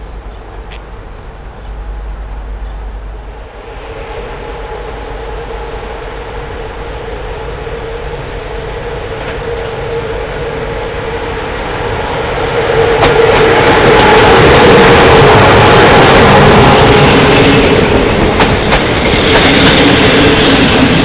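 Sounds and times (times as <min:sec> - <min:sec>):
electric locomotive hum: 0:00.0 - 0:21.0
train rolling noise: 0:00.0 - 0:21.0.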